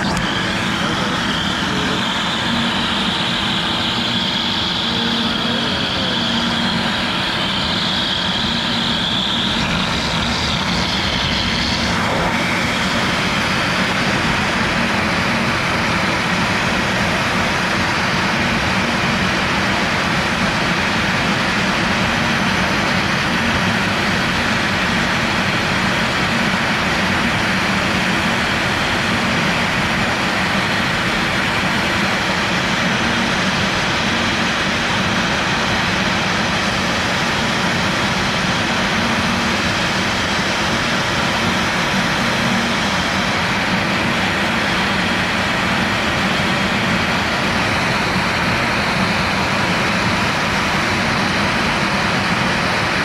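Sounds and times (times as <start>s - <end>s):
cnc router carving plastic: 0.0s - 53.0s
high whine: 0.0s - 53.0s
vacuum running: 0.0s - 53.0s.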